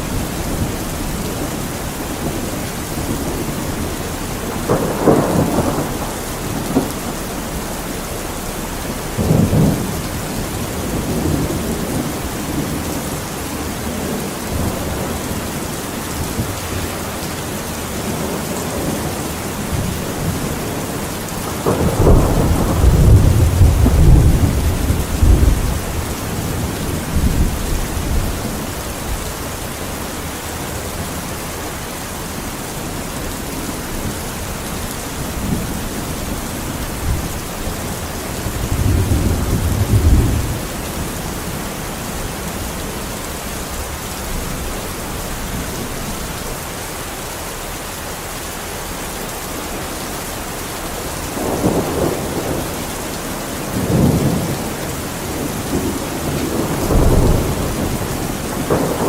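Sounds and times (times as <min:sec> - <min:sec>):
thunder rumbling: 0:00.0 - 0:46.5, 0:50.8 - 0:59.0
steady rain: 0:00.0 - 0:59.0.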